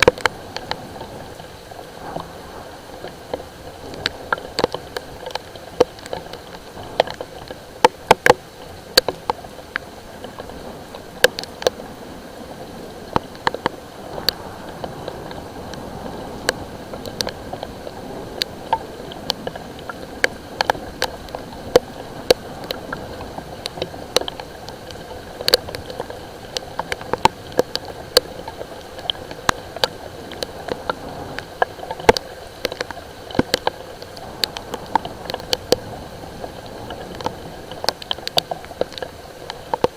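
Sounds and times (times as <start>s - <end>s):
light rain hiss: 0.0s - 39.9s
raindrops tapping hard surface: 0.0s - 39.9s.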